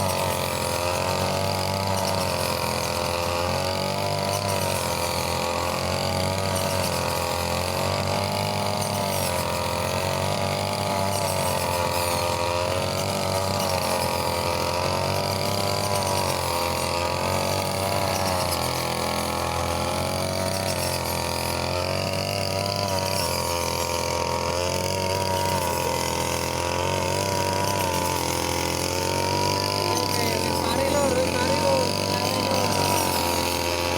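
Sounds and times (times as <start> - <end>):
brush cutter engine running: 0.0 - 33.9.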